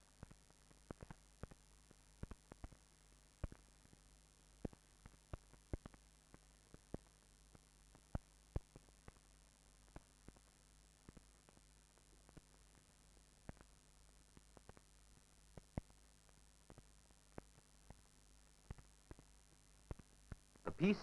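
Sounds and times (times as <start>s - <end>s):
faint steady hum: 0.0s - 21.0s
film surface crackle clicks: 0.2s - 4.0s, 4.6s - 9.3s, 9.9s - 20.6s.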